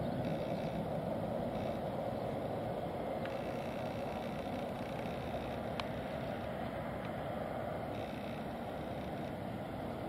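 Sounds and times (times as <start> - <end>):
faint high whine: 0.0 - 10.0
jet engines rumbling: 0.0 - 10.0.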